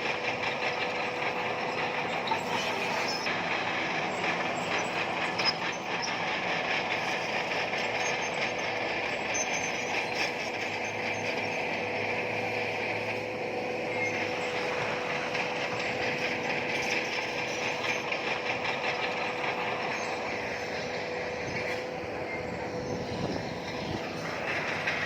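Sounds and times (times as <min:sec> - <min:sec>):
crawler tracks clanking and squealing: 0:00.0 - 0:25.0
diesel engine running: 0:00.0 - 0:25.0.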